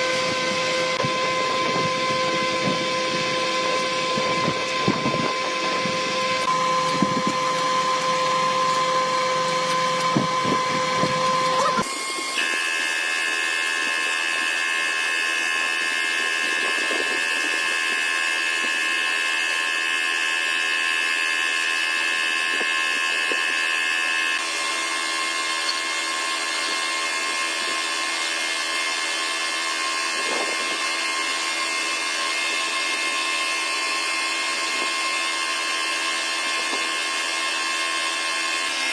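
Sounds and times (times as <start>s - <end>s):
power tool whining: 0.0s - 38.9s.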